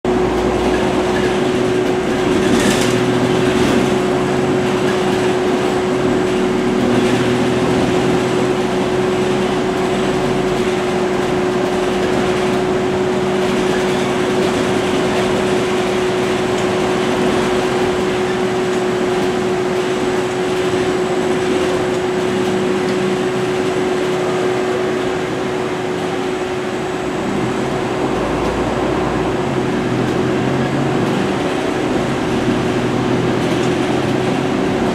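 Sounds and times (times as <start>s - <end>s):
bus engine running: 0.1s - 34.9s
road noise rushing: 0.1s - 34.9s.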